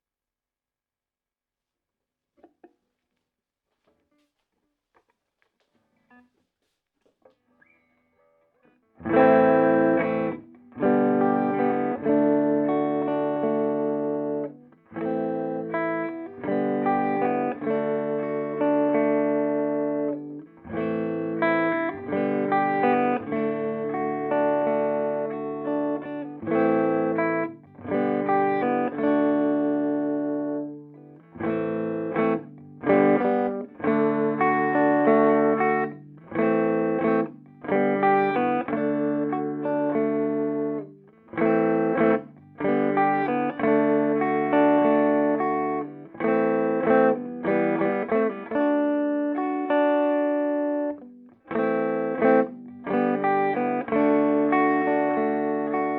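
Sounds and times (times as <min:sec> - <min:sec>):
clean electric guitar chords: 0:08.9 - 0:55.9.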